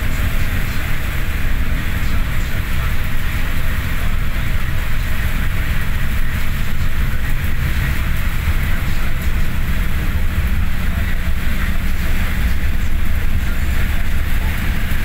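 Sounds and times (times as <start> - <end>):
bus engine and road rumble: 0.0 - 15.0
heavy rain and tyre spray hiss: 0.0 - 15.0.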